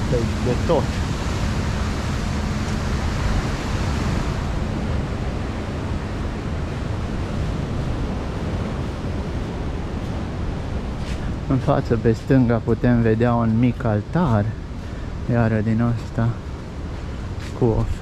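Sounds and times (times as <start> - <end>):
sea surf: 0.0 - 18.0
wind: 0.0 - 18.0.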